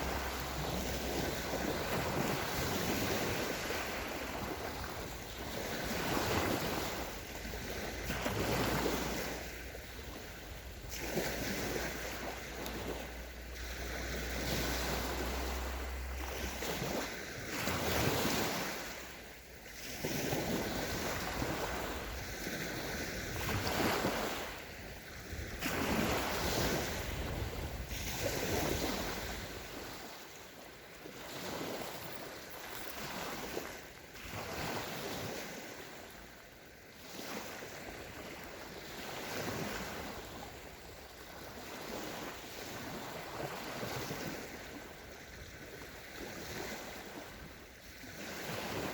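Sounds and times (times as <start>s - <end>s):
small waves breaking on shore: 0.0s - 48.9s.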